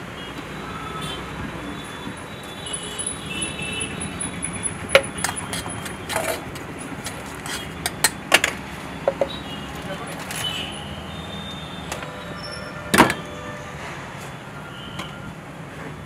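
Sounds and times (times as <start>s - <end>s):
street background noise: 0.0s - 16.0s.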